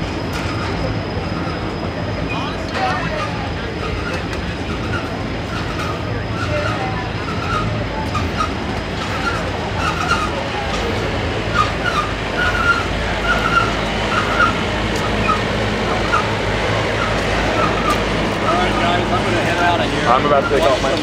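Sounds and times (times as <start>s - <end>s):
train wheels rumbling on rail: 0.0s - 21.0s
high squeaks: 0.2s - 21.0s.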